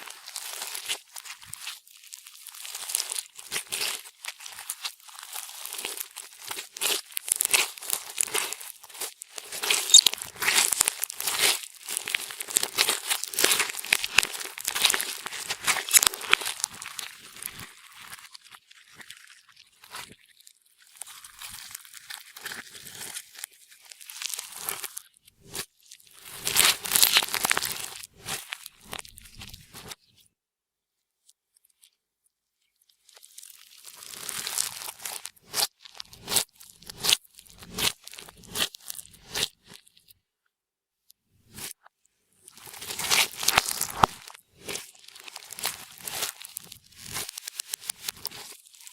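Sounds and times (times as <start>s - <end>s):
slime crackling and popping: 0.0s - 20.2s, 20.9s - 30.0s, 33.0s - 39.9s, 42.5s - 48.9s.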